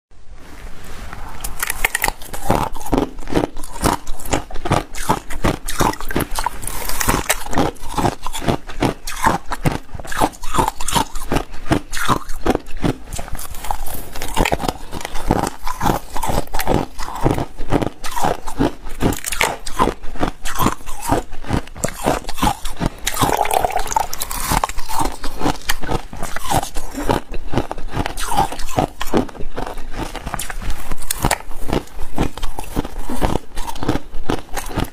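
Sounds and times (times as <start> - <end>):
chewing crunchy shaved ice: 1.4 - 34.9.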